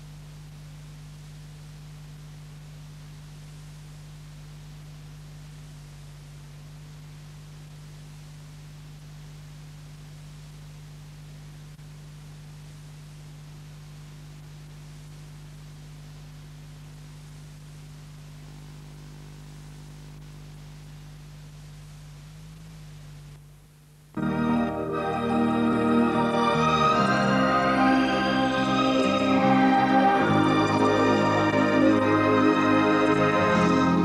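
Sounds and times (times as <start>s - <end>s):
low electrical hum: 0.0s - 34.0s
tape hiss: 0.0s - 34.0s.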